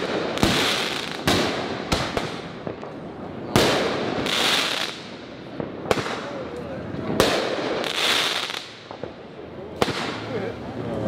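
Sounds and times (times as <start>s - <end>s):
fireworks booming: 0.0s - 10.8s.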